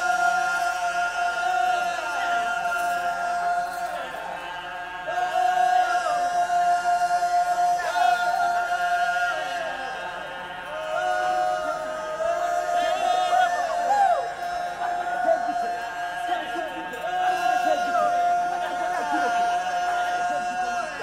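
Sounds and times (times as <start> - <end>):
chorus of men singing: 0.0 - 21.0.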